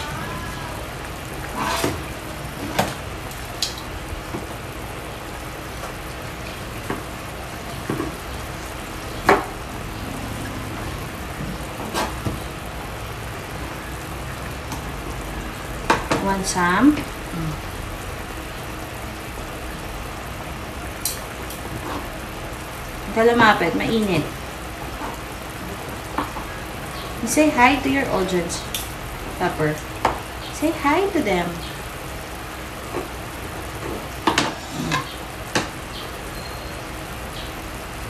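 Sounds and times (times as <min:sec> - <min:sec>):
pot simmering: 0:00.0 - 0:38.0.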